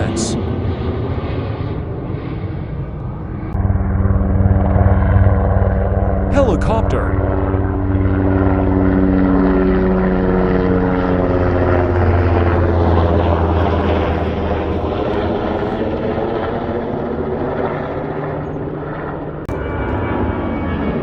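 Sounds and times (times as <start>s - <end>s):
helicopter passing by: 0.0s - 21.0s.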